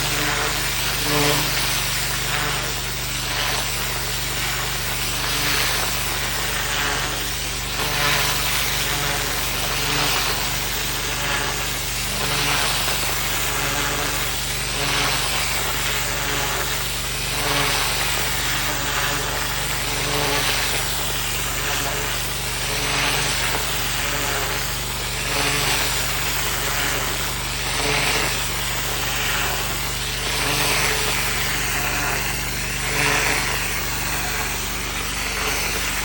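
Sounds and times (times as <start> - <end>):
pressure washer engine running: 0.0 - 36.0
water jet spraying soil: 0.0 - 36.0.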